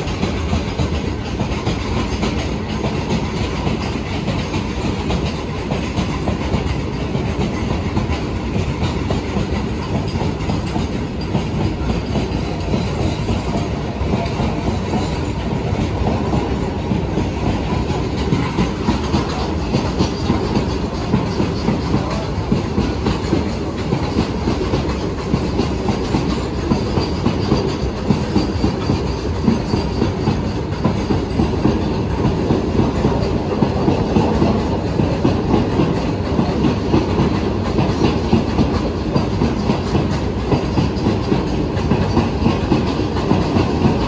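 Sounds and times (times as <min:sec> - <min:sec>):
freight train rumbling past: 0:00.0 - 0:44.0
wheel clatter over rail joints: 0:00.0 - 0:44.0.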